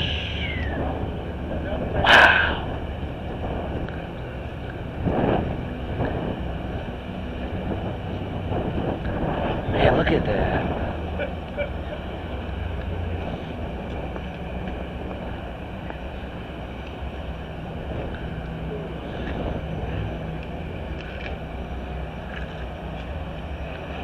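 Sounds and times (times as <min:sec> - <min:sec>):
car engines idling: 0:00.0 - 0:24.0.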